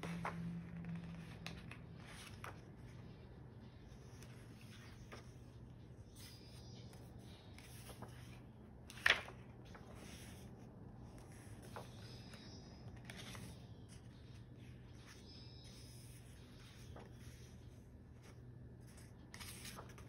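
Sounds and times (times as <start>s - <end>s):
page flapping: 0.0s - 3.0s, 4.0s - 5.5s, 6.2s - 10.4s, 11.1s - 17.5s, 18.2s - 20.0s
paper pages rustling: 0.0s - 20.0s.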